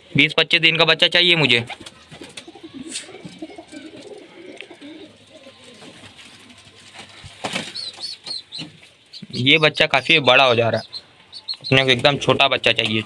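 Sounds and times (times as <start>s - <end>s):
pigeons cooing: 1.5s - 12.3s.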